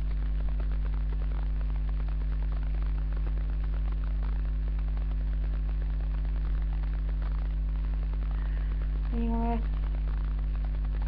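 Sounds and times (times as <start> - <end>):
faint crackle: 0.0 - 11.0
low electrical hum: 0.0 - 11.0.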